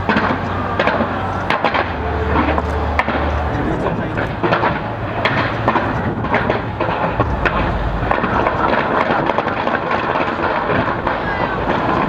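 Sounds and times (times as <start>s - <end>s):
continuous rumble: 0.0s - 12.0s
deep firework boom: 0.0s - 12.0s
fireworks cracking and popping: 0.0s - 12.0s.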